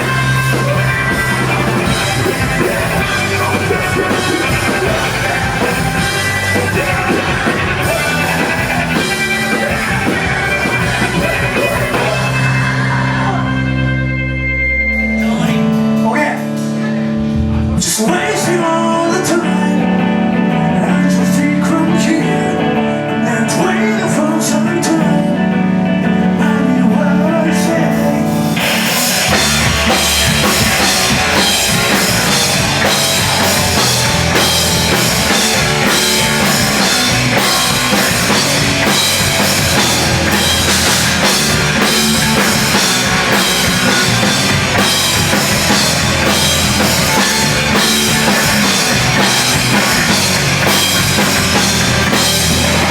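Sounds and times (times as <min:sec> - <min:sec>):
guitar sustained notes: 0:00.0 - 0:52.9
loud rock band with drums: 0:00.0 - 0:52.9.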